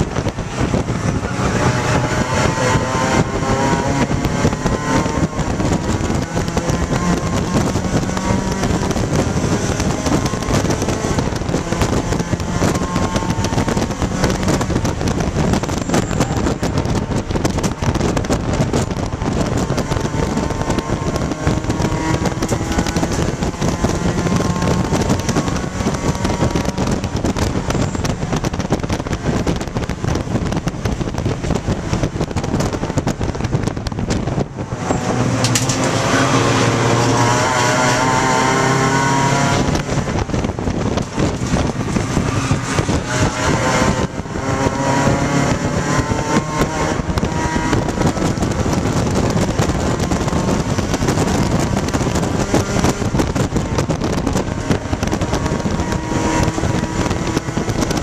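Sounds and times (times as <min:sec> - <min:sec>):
car engine under load: 0:00.0 - 0:58.0
road noise: 0:00.0 - 0:58.0.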